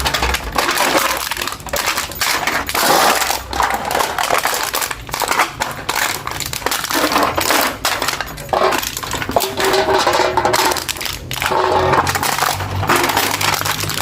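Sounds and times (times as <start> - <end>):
beer can being crushed: 0.0 - 14.0.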